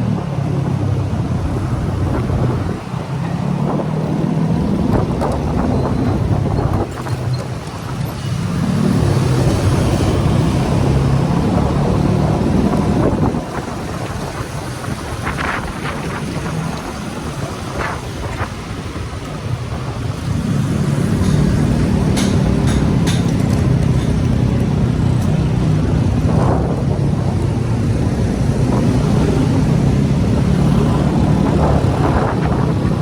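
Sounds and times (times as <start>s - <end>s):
wind noise on microphone: 0.0s - 33.0s.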